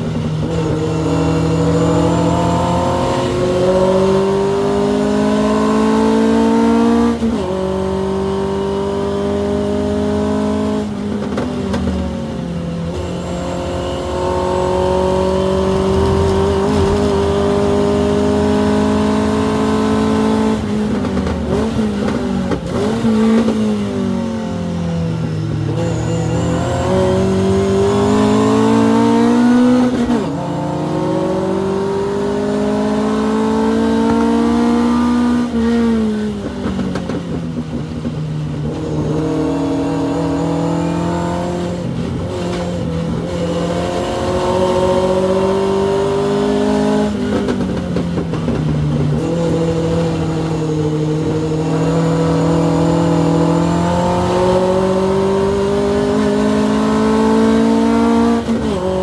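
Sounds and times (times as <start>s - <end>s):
race car engine revving: 0.1s - 59.0s.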